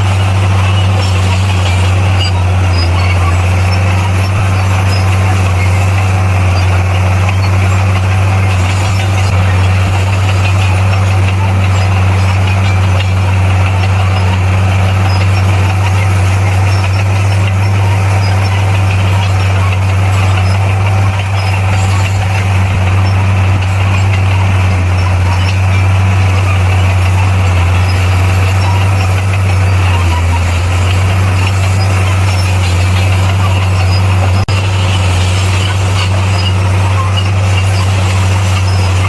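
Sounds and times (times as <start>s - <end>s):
bulldozer diesel engine droning: 0.0s - 39.0s.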